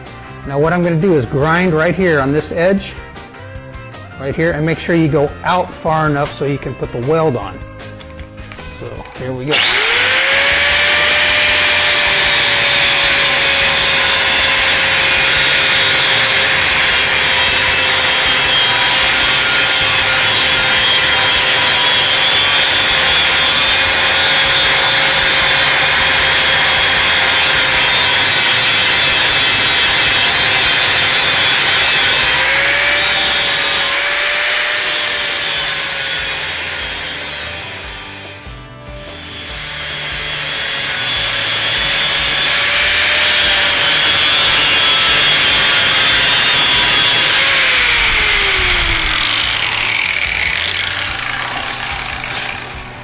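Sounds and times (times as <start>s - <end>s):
grinder grinding steel: 0.0s - 53.0s.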